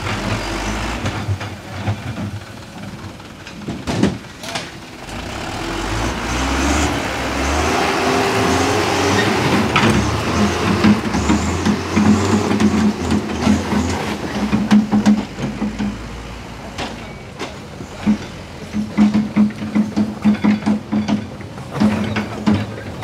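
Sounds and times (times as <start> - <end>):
dump truck diesel engine revving: 0.0 - 3.5, 4.2 - 20.5.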